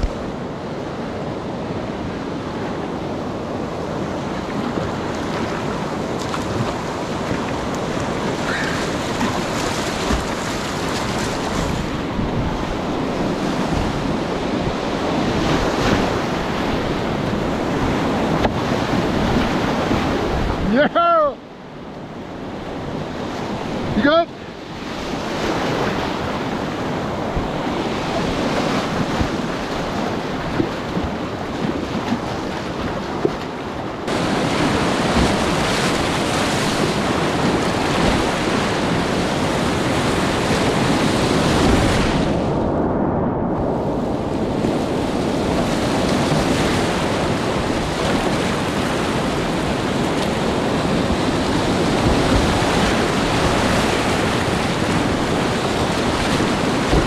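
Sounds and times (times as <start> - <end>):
whitewater rapids rushing: 2.6 - 21.4, 25.4 - 42.4, 44.8 - 57.0.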